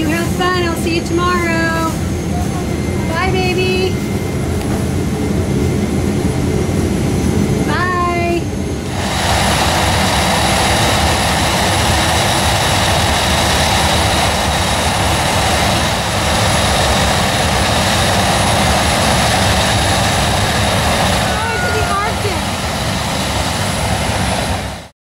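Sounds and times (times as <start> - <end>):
jet turbine roaring: 0.0 - 24.9.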